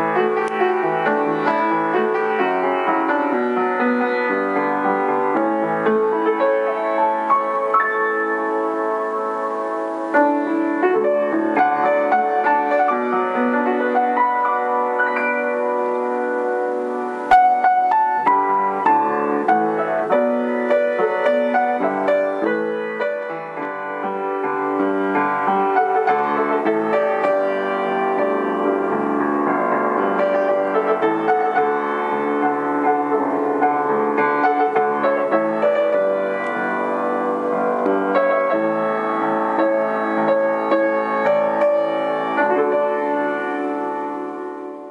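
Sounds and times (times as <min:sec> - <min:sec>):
piano music: 0:00.0 - 0:44.9.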